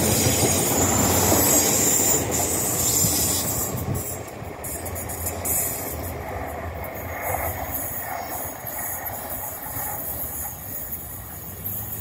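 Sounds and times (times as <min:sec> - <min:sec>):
train wheel and track rumble: 0:00.0 - 0:12.0.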